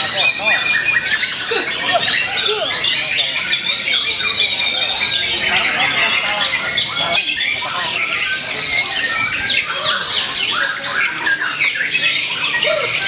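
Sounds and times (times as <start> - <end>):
other songbirds singing: 0.0 - 13.0.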